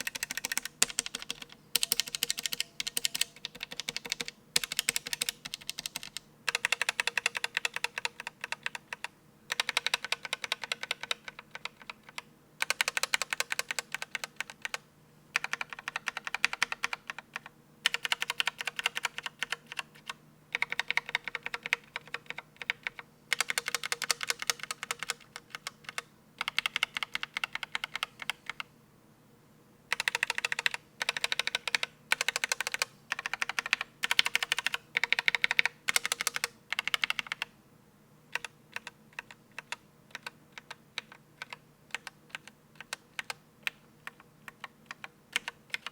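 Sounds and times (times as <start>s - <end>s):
mechanical keyboard typing: 0.0s - 14.8s, 15.4s - 28.7s, 29.9s - 37.5s, 38.3s - 45.9s.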